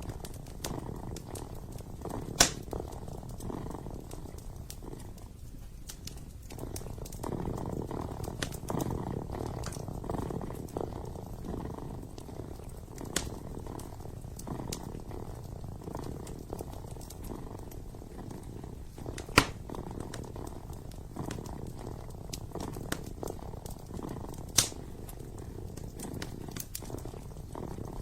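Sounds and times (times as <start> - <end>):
kitten purring: 0.0 - 28.0
wood fire crackling: 0.0 - 28.0.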